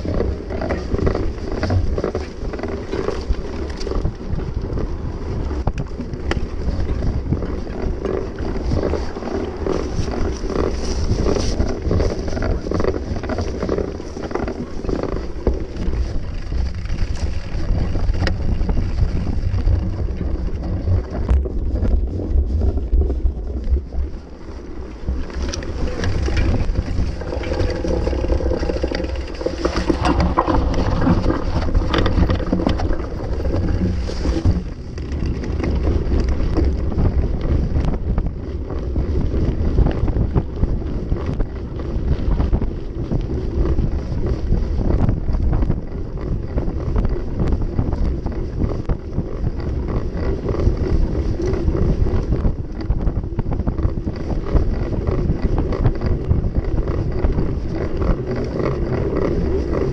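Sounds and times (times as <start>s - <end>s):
tyres rumbling on dirt: 0.0s - 59.9s
wind rushing over microphone: 0.0s - 59.9s.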